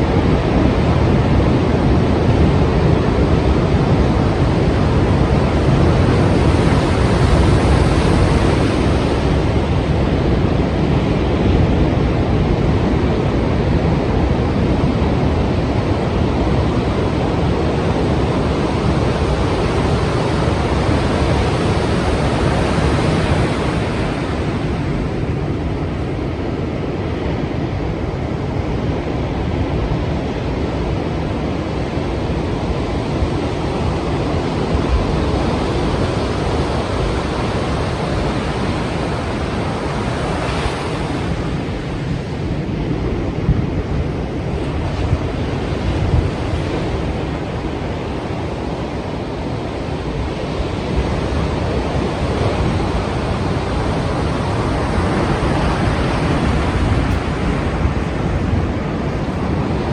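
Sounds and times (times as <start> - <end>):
sea waves breaking: 0.0 - 59.9.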